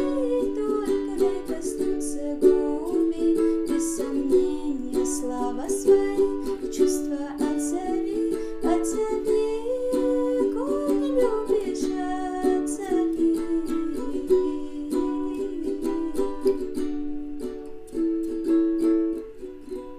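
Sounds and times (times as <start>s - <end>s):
ukulele strumming chords: 0.0s - 19.9s.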